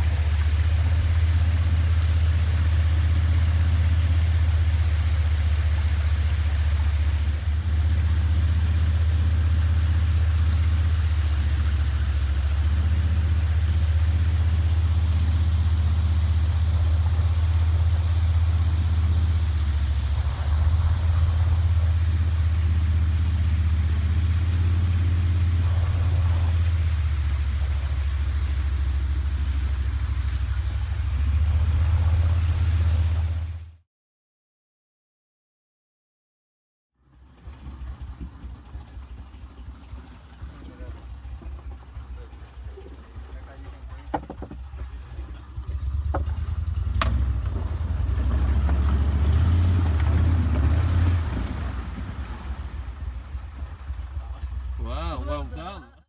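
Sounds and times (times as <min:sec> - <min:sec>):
boat motor droning: 0:00.0 - 0:33.8, 0:37.0 - 0:56.0.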